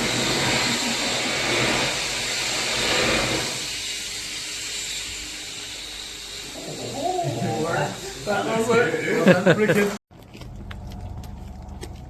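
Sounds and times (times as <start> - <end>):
rocket engine hissing: 0.0 - 10.0.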